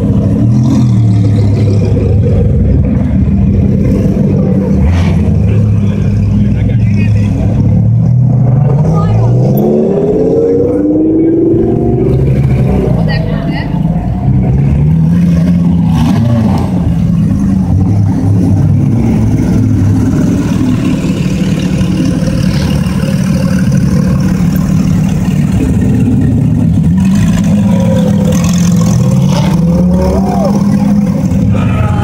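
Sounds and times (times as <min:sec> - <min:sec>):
car engine running loud: 0:00.0 - 0:32.0.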